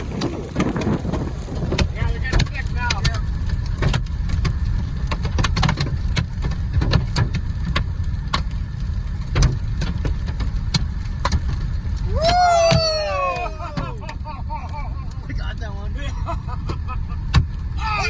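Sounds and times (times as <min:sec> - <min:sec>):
hailstones striking a vehicle: 0:00.0 - 0:17.7
road and engine rumble: 0:00.0 - 0:18.0.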